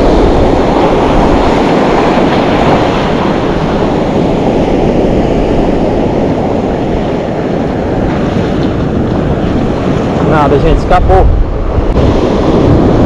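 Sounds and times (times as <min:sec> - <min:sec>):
surf breaking: 0:00.0 - 0:13.0
wind buffeting microphone: 0:00.0 - 0:13.0.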